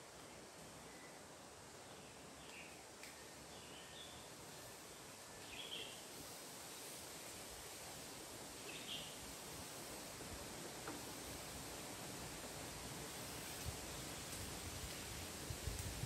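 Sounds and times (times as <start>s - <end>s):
faint outdoor noise: 0.0s - 16.0s.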